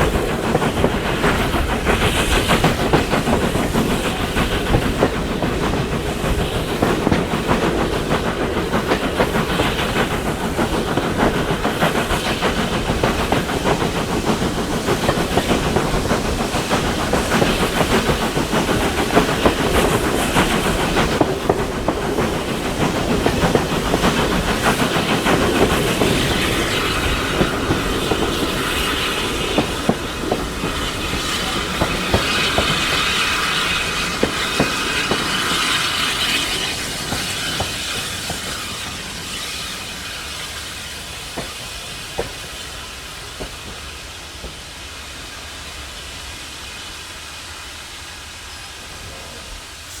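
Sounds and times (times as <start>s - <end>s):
wheels clacking over rail joints: 0.0s - 44.7s
steam hissing: 0.0s - 50.0s
train rumbling: 0.0s - 50.0s.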